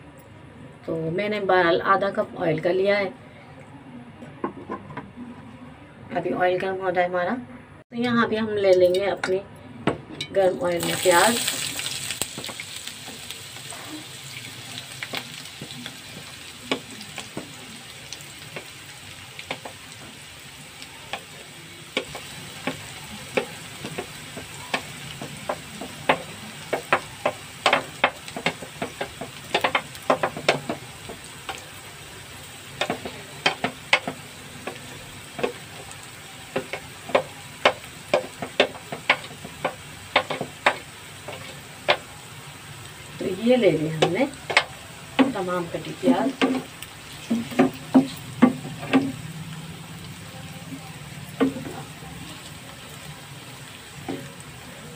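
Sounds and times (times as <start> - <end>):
onions frying in oil: 10.3 - 54.9.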